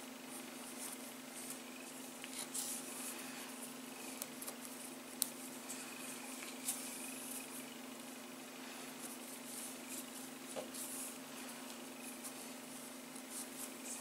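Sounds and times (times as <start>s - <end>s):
cord rustling and swishing: 0.2s - 7.7s, 8.9s - 14.0s.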